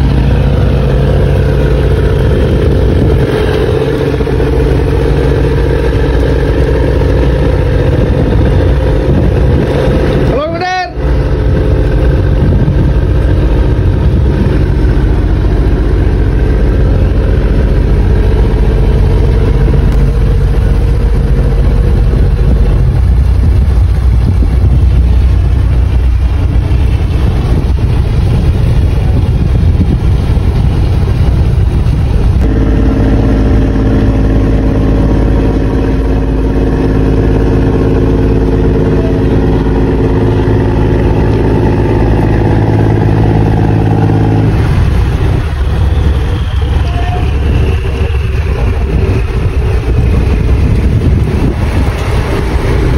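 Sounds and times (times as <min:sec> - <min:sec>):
boat engine humming: 0:00.0 - 0:52.9.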